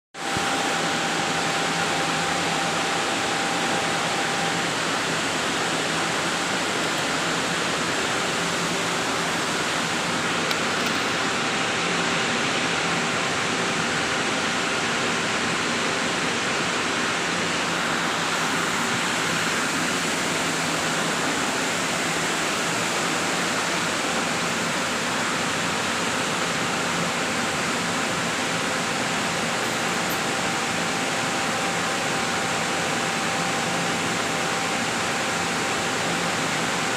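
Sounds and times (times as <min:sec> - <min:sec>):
blower rushing noise: 0:00.2 - 0:36.9
faint steady hum tones: 0:00.2 - 0:36.9.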